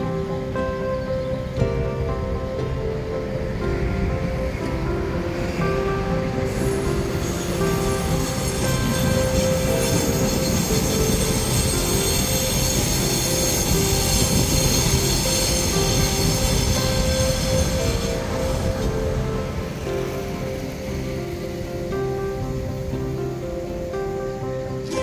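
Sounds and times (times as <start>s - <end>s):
background music: 0.0s - 25.0s
train wheels rumbling on rails: 0.0s - 25.0s.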